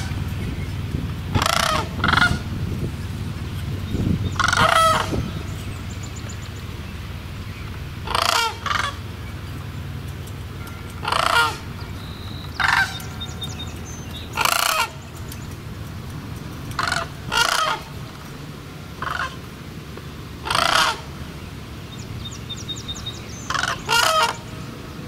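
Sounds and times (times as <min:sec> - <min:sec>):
crane rattling calls: 0:00.0 - 0:25.0.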